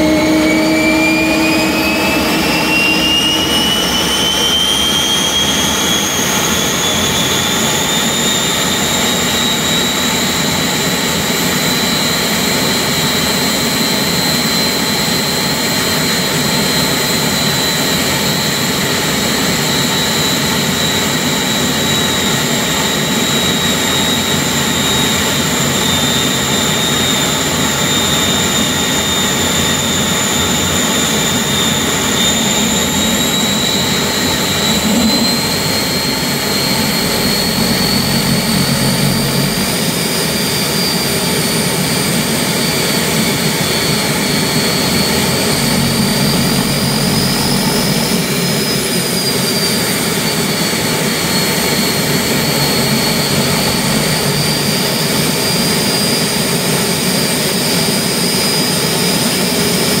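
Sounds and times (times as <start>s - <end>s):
gas turbine engine roaring: 0.0s - 60.0s
high compressor whine: 0.0s - 60.0s.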